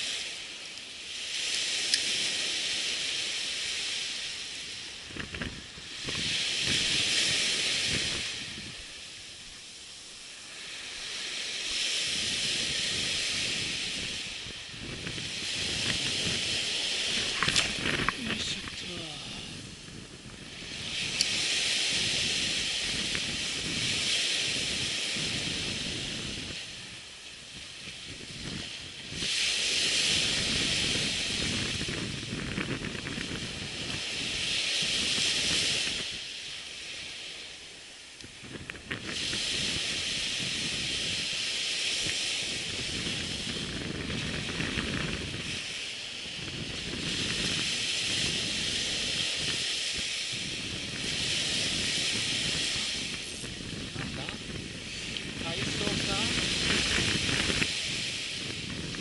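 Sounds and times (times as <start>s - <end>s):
surf washing on beach: 0.0s - 59.0s
wind: 0.0s - 59.0s.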